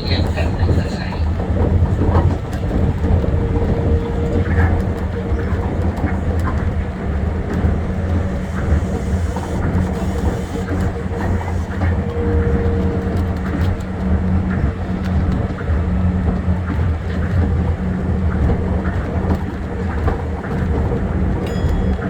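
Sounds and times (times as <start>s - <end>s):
monorail train rumble: 0.0s - 22.0s.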